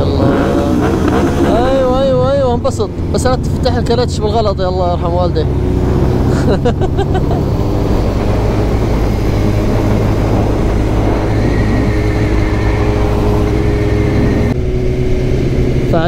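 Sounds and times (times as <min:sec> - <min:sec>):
motorcycle engine cruising: 0:00.0 - 0:16.0
wind rush on microphone: 0:00.0 - 0:16.0.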